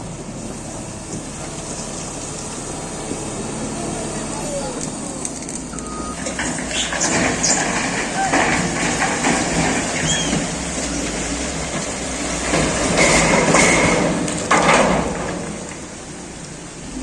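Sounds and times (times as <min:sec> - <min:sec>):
motor grader grinding and rattling: 0:00.0 - 0:17.0.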